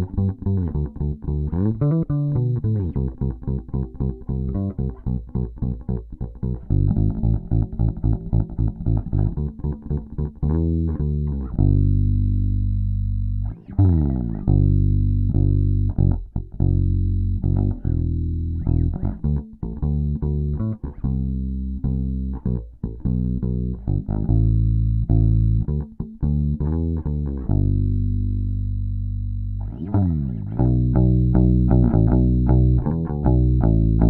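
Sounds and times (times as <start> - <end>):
electric bass plucked notes: 0.0 - 34.0.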